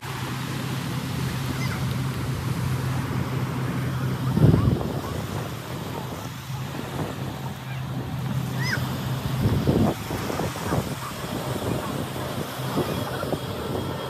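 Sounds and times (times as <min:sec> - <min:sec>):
surf breaking on beach: 0:00.0 - 0:14.0
wind on microphone: 0:01.3 - 0:14.0.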